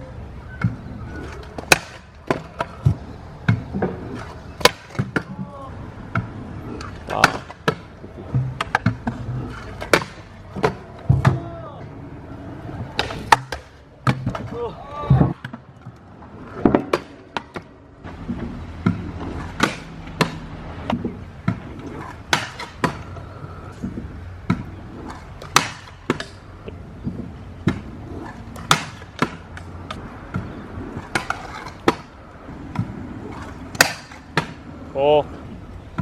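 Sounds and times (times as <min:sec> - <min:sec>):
scooter wheels rolling on concrete: 0:00.0 - 0:36.0.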